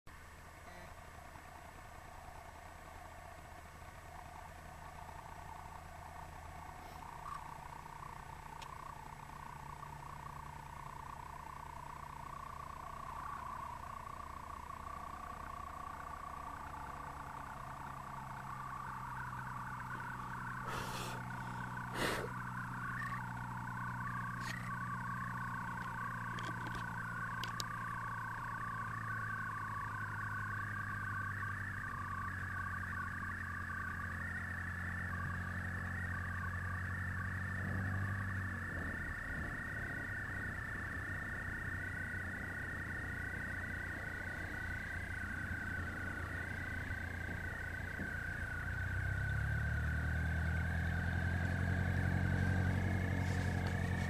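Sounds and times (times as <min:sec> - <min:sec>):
engine running: 0:00.1 - 0:54.0.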